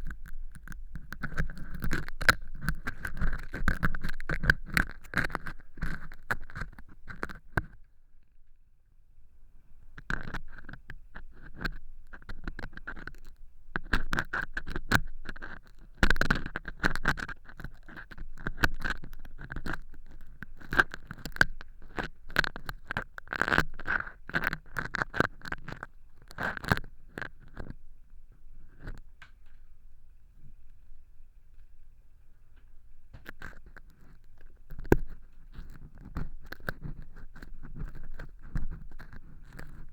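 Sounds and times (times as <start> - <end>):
ear pick scraping fake earwax: 0.1 - 7.8, 10.0 - 27.8, 33.3 - 39.9.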